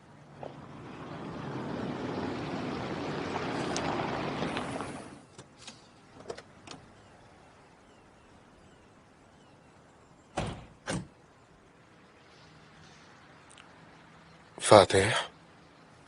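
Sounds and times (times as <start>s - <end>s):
road vehicle passing: 0.0s - 10.0s, 11.2s - 16.0s.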